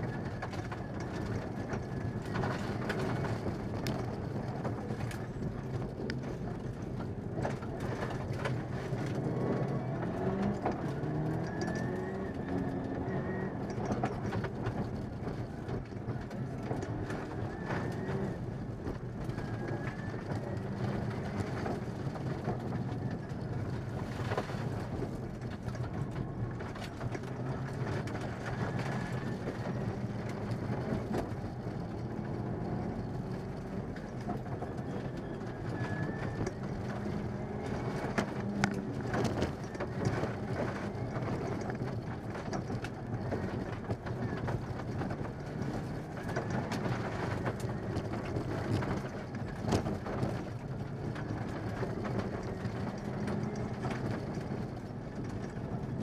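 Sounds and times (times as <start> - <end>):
rally car engine running hard: 0.0 - 56.0.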